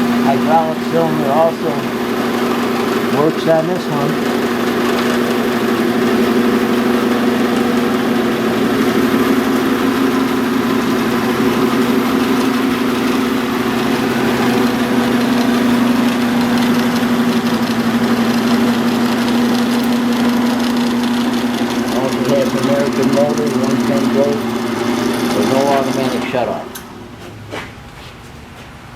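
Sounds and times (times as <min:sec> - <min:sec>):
band saw humming: 0:00.0 - 0:27.2.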